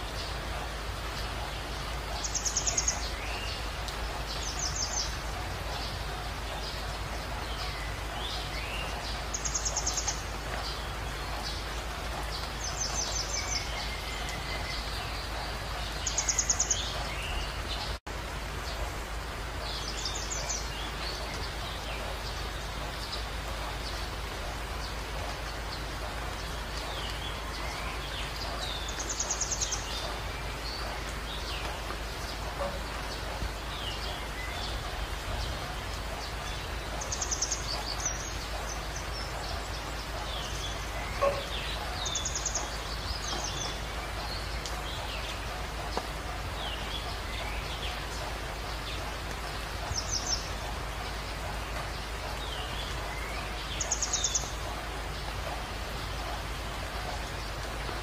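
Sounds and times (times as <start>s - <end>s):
small birds chirping: 0.0s - 58.0s
steady rain-like hiss: 0.0s - 58.0s.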